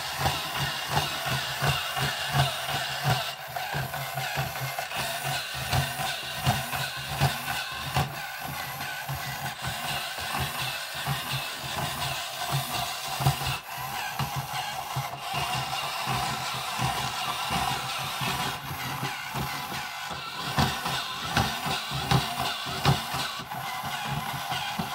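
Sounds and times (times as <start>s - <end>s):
small motor and gears whirring: 0.0s - 24.9s
plastic legs tapping on wooden floor: 0.2s - 24.9s.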